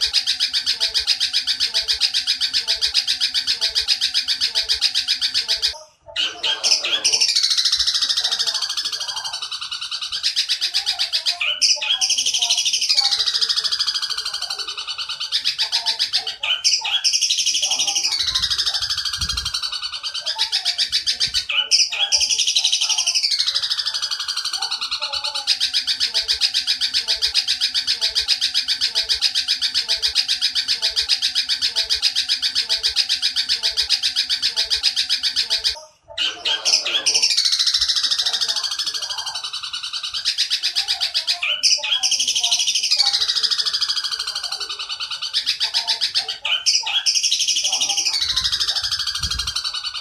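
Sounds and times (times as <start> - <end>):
bird squealing phrases: 0.0 - 50.0
sparrow chatter: 0.0 - 50.0.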